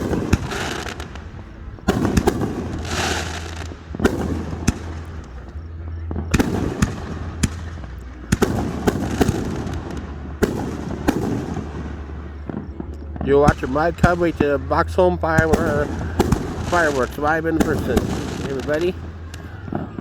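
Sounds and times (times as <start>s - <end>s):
fireworks bangs: 0.0s - 20.0s
steady low hum: 0.0s - 20.0s.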